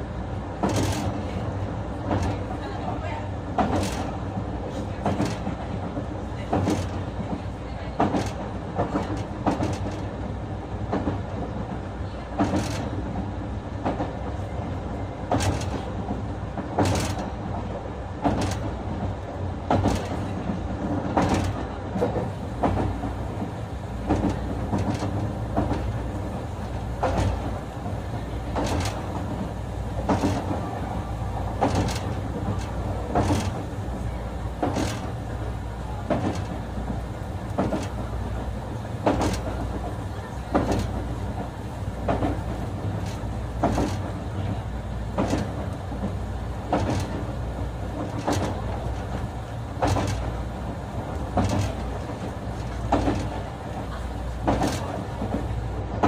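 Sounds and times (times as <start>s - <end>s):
train wheels and motors rumbling: 0.0s - 56.0s
wheels clacking over rail joints: 0.5s - 56.0s.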